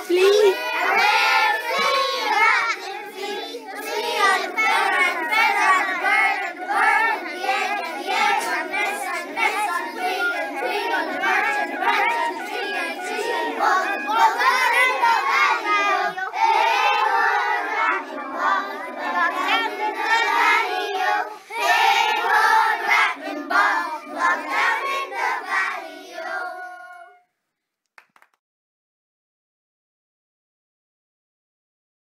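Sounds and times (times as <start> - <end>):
young children singing: 0.0 - 27.2.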